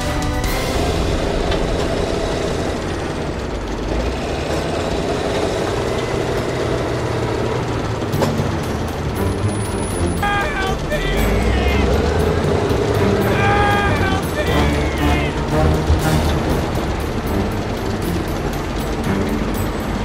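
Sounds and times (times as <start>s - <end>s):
heavy vehicle engine rumbling: 0.0s - 20.0s.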